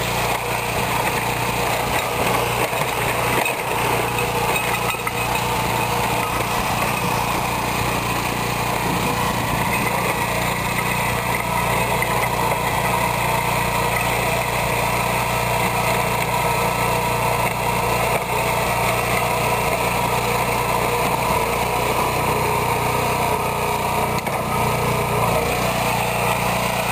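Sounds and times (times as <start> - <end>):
walk-behind tractor engine: 0.0 - 26.9
wheel weights clanking: 0.0 - 26.9.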